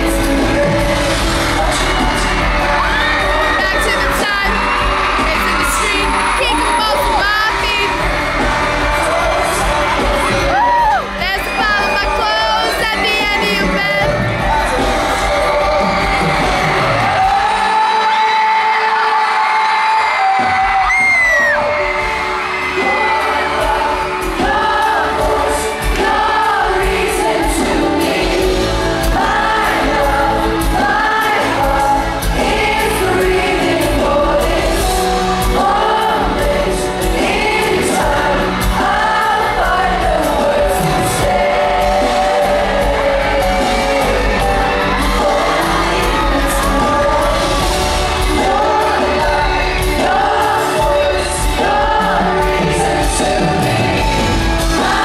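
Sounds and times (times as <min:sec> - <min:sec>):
backing band: 0:00.0 - 0:55.0
group singing pop song live: 0:00.0 - 0:55.0.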